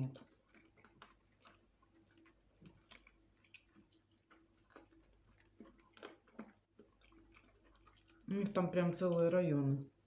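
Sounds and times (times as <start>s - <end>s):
mouth clicks and lip smacks: 0.0s - 8.4s.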